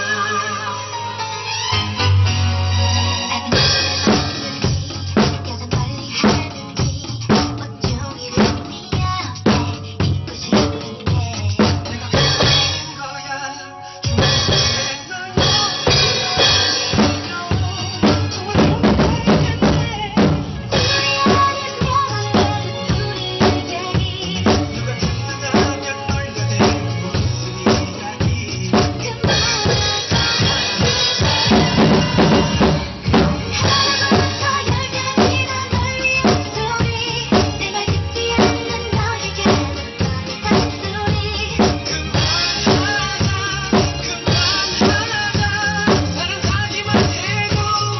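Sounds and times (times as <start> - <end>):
drum kit playing a groove: 0.0 - 47.9
pop backing track: 0.0 - 47.9.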